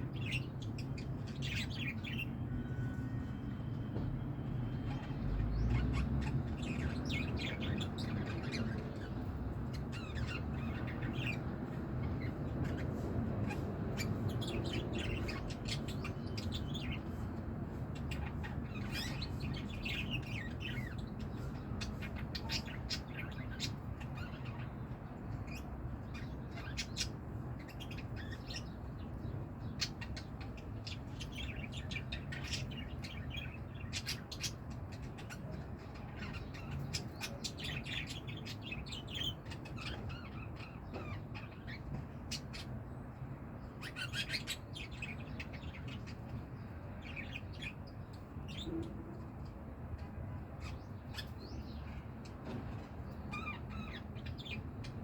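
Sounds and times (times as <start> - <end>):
birds chirping and squawking: 0.0 - 55.0
low background hum: 0.0 - 55.0.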